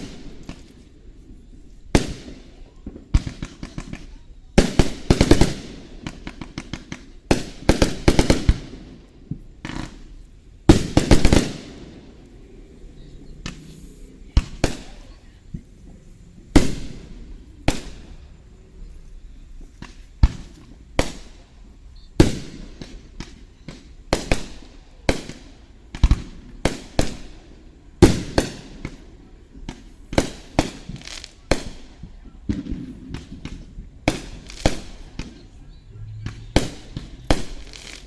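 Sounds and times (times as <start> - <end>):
fireworks bursting with echo: 0.0 - 38.0.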